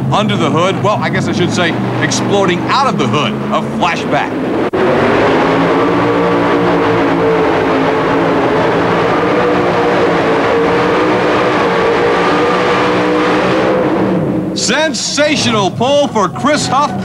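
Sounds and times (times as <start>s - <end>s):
pulling truck engine at full throttle: 0.0s - 17.0s.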